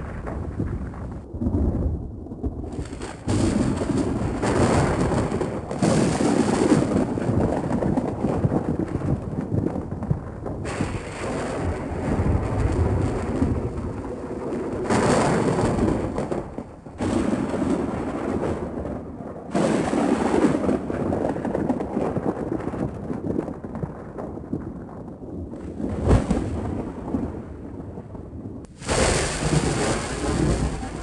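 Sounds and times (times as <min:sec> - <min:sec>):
sharp thunder crack: 0:00.0 - 0:31.0
thunder rumbling: 0:00.0 - 0:31.0.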